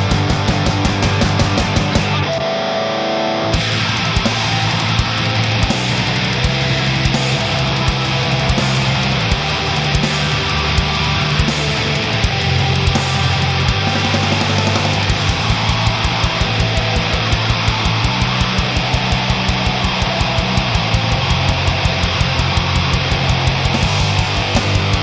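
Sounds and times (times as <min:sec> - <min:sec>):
drum kit fast beat: 0:00.0 - 0:02.3, 0:03.6 - 0:25.0
electric bass: 0:00.0 - 0:25.0
electric guitar: 0:00.0 - 0:25.0.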